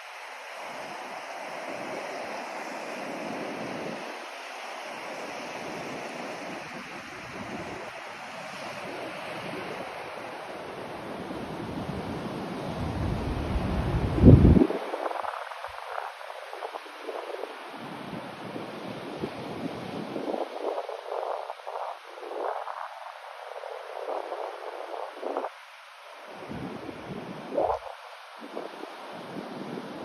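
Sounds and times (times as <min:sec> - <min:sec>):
white noise hiss: 0:00.0 - 0:30.0.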